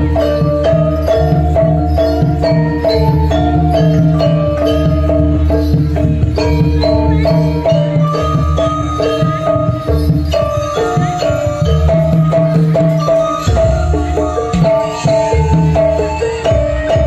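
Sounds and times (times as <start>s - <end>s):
drums: 0.0s - 17.0s
metal mallet instruments melody: 0.0s - 17.0s.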